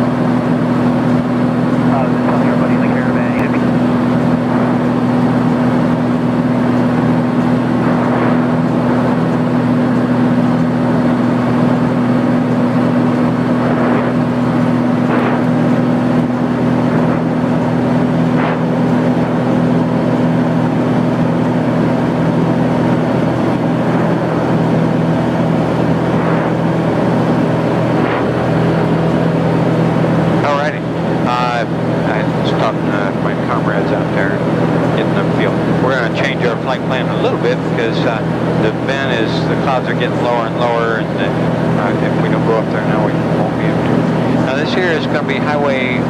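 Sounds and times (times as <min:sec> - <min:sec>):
light aircraft engine droning: 0:00.0 - 0:46.0.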